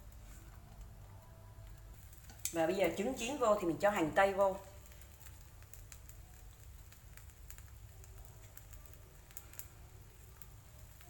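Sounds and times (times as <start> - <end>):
oil crackling and popping: 0.0 - 11.0.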